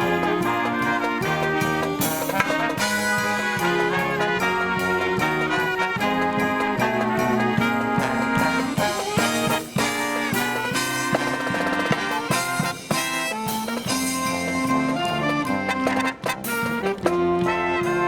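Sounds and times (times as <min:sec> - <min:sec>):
brass band playing: 0:00.0 - 0:18.0
drum strokes: 0:00.0 - 0:18.0.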